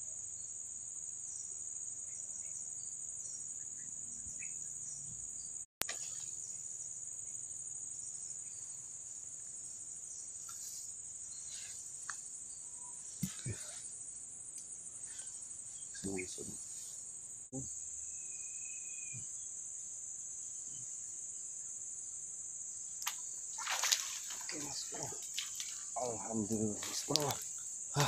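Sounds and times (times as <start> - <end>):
crickets chirping chorus: 0.0 - 28.0.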